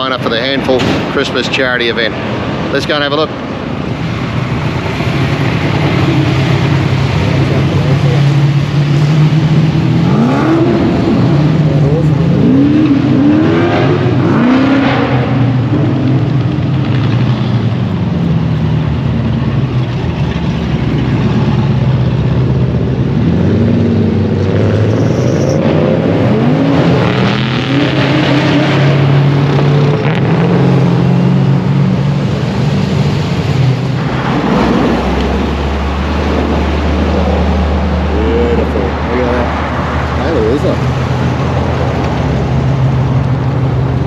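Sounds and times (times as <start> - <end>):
loud car engines rumbling: 0.0 - 44.0.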